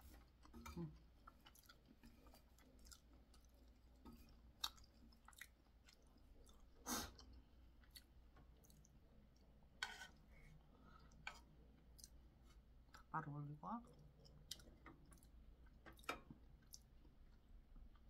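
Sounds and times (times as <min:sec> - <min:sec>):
person chewing: 0:00.1 - 0:09.5, 0:10.9 - 0:13.1, 0:13.8 - 0:18.0.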